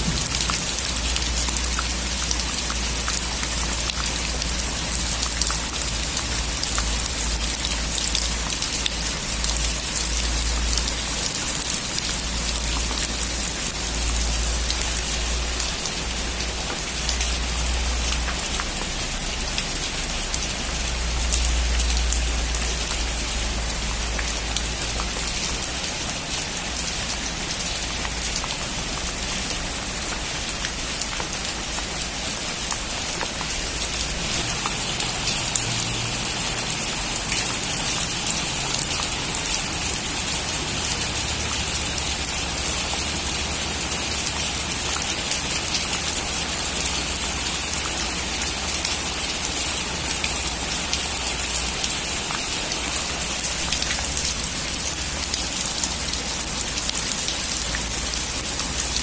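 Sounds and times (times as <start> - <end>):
heavy rain on metal roof: 0.0 - 59.0.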